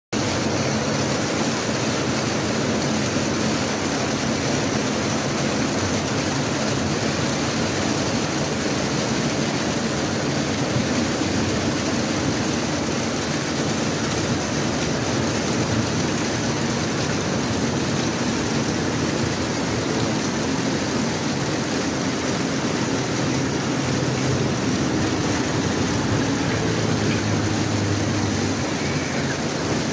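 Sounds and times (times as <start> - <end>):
heavy rain pouring: 0.2 - 29.9.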